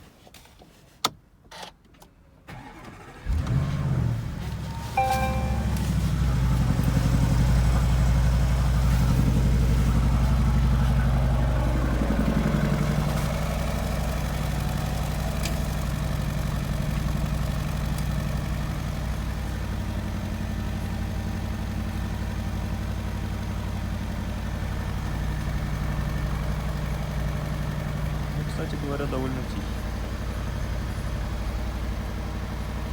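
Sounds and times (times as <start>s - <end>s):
car engine idling: 2.5s - 32.9s.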